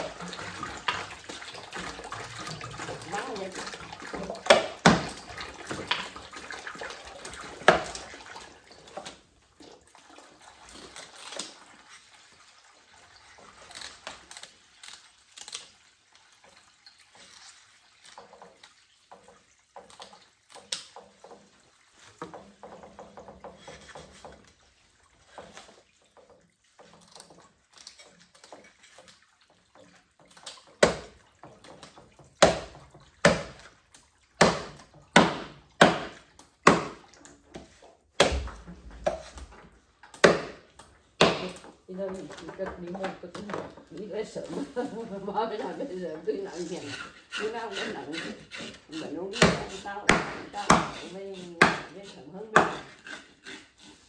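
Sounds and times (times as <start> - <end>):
drips and clicks: 0.0 - 52.8
water splashing and running: 0.0 - 54.0.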